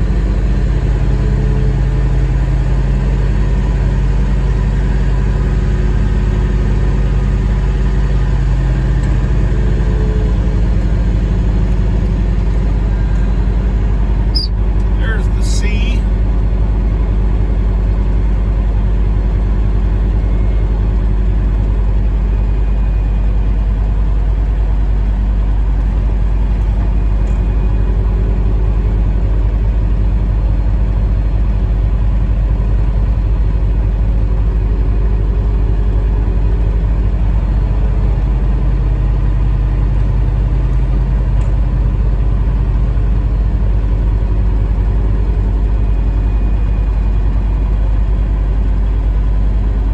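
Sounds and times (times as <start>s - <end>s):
diesel truck engine droning: 0.0s - 49.9s.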